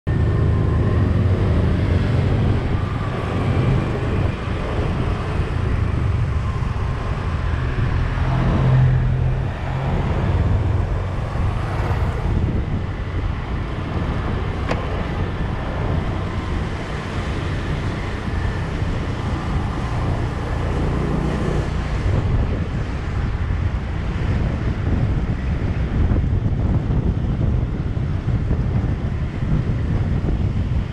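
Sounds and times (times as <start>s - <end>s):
vehicle engine and road rumble: 0.0s - 30.9s.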